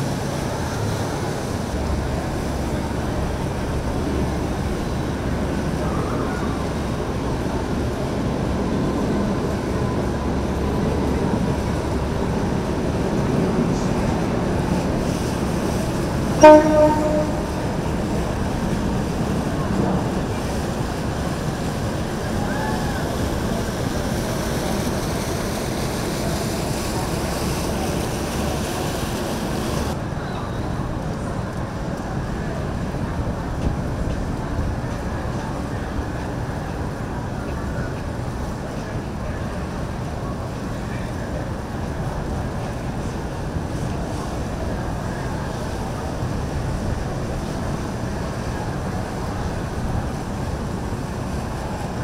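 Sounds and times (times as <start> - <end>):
boat engines rumbling: 0.0 - 52.0
water wash: 0.0 - 52.0.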